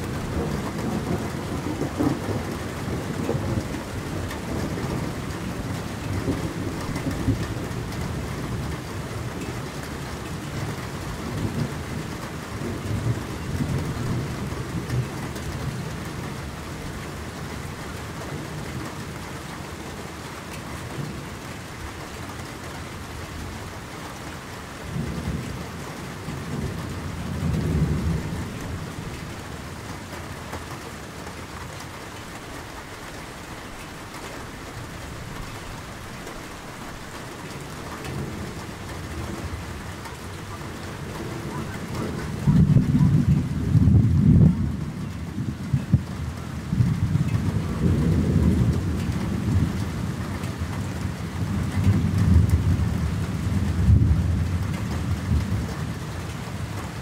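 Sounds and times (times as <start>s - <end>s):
low rolling thunder: 0.0s - 22.2s, 24.6s - 57.0s
rain falling on a lake: 0.0s - 57.0s.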